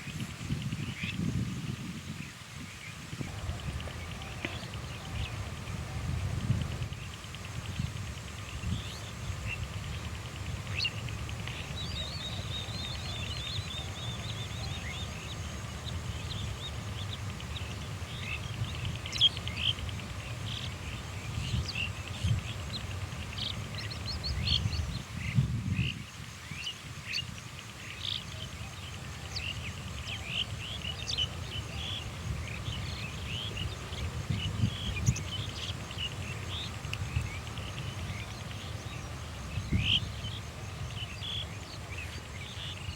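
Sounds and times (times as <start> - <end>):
small birds chirping: 2.8 - 42.9.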